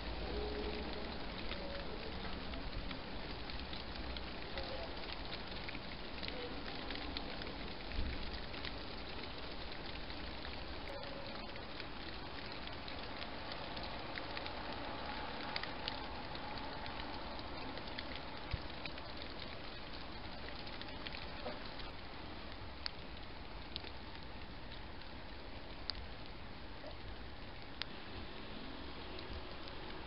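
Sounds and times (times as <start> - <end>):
rain pattering on leaves: 0.0 - 30.0.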